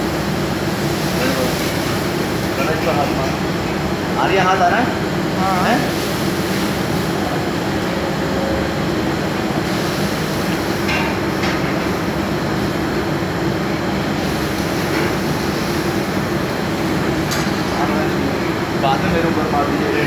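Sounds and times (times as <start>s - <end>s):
kitchen equipment roaring: 0.0s - 20.0s.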